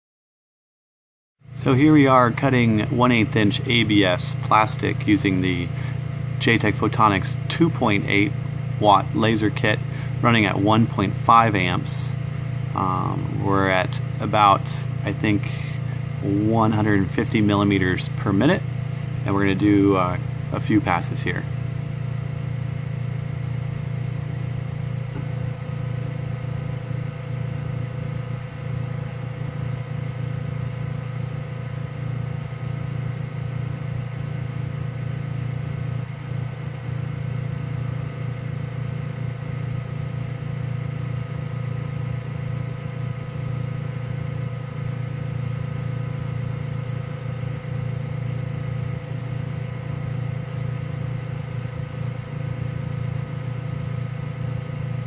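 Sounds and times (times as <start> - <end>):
laser cutter machine hum: 1.4 - 55.0
whining fans and motors: 1.4 - 55.0.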